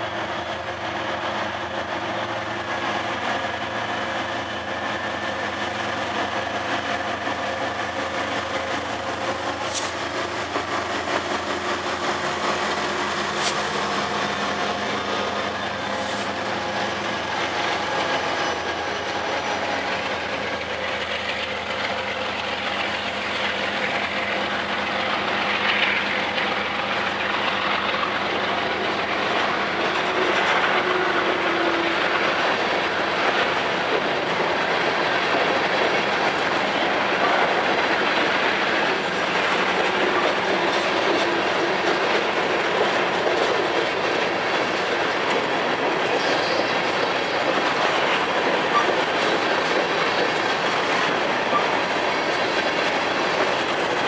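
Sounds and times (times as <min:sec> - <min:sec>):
train wheels clacking over rails: 0:00.0 - 0:54.0.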